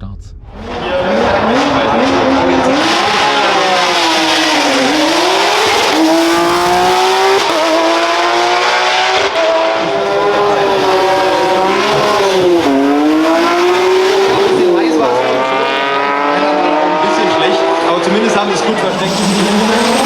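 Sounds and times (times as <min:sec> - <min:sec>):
race car engine accelerating: 0:00.4 - 0:20.0.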